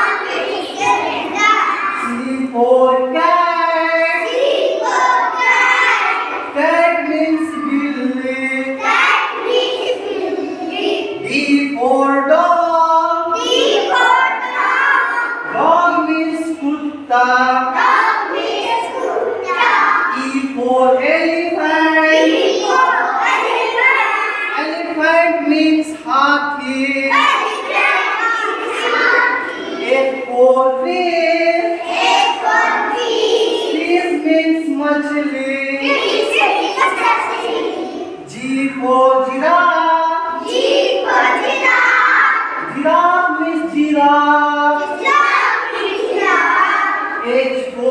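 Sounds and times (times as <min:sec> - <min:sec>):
children singing in unison: 0:00.0 - 0:25.0, 0:25.6 - 0:47.9.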